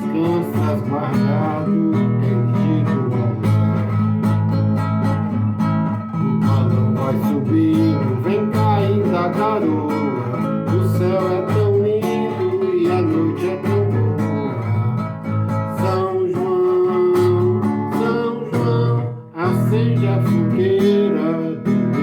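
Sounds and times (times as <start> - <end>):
person singing with wavering voice: 0.0 - 4.0, 6.1 - 22.0
acoustic guitar strumming: 0.0 - 22.0.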